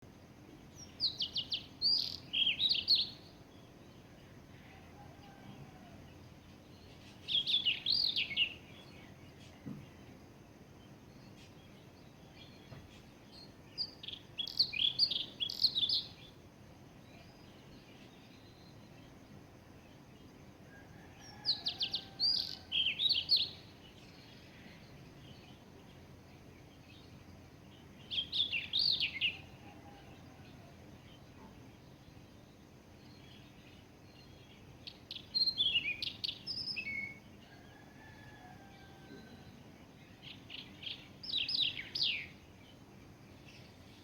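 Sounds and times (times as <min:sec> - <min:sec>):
faint background noise: 0:00.0 - 0:44.0.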